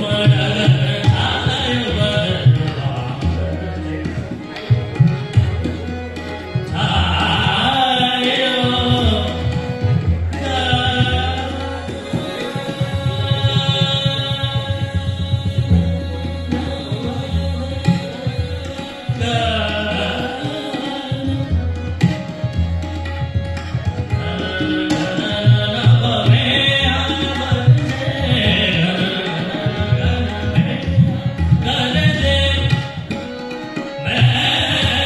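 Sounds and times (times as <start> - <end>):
man singing: 0.0 - 4.5, 6.6 - 22.4, 24.0 - 35.0
tabla playing: 0.0 - 35.0.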